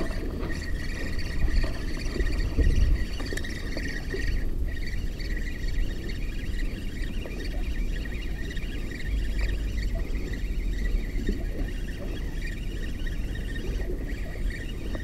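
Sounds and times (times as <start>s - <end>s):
high-pitched animal chorus: 0.0s - 15.0s
wind rumble on microphone: 0.0s - 15.0s.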